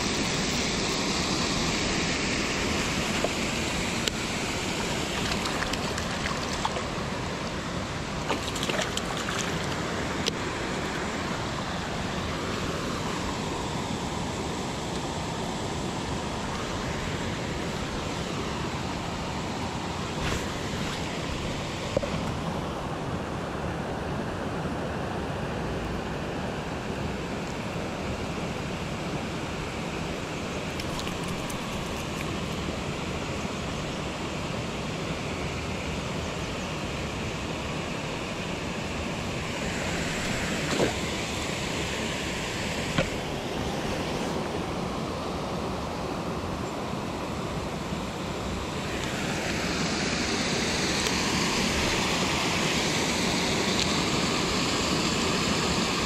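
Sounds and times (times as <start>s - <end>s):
river water rushing over weir: 0.0s - 56.0s.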